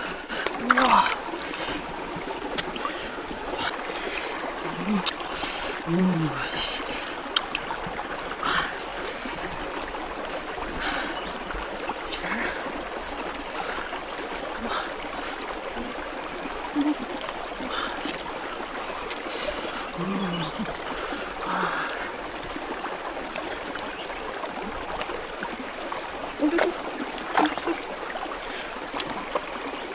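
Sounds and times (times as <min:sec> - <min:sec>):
stream trickling: 0:00.0 - 0:29.9
water splashes: 0:00.0 - 0:29.9.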